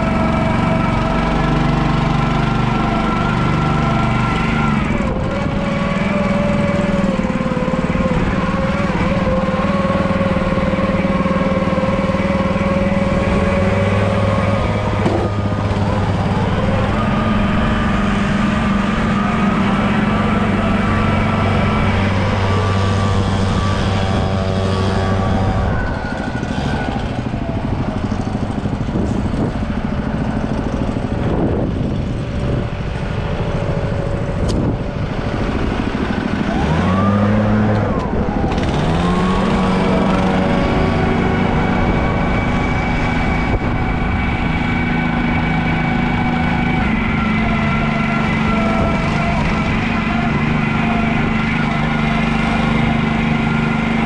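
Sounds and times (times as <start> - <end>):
small gasoline engine running: 0.0 - 54.0.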